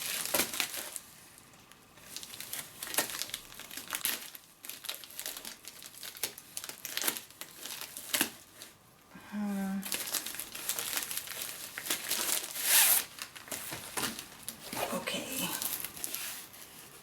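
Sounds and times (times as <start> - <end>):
plastic packaging crinkling: 0.0 - 8.8, 9.8 - 17.0.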